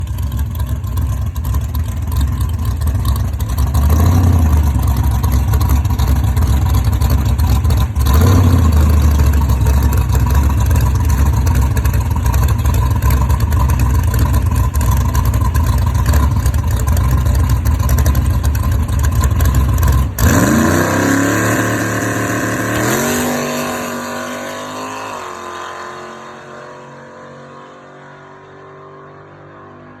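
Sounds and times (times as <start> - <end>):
vehicle engine running: 0.0 - 24.4.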